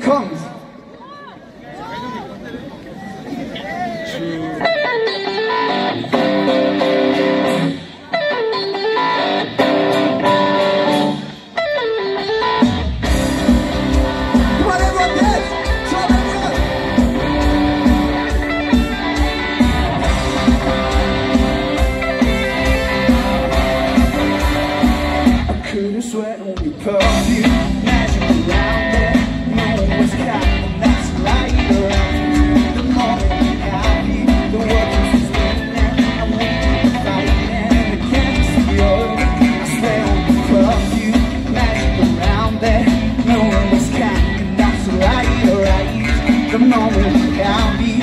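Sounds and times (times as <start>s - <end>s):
live rock band: 3.9s - 48.0s
electric guitar playing: 4.3s - 25.8s, 27.0s - 48.0s.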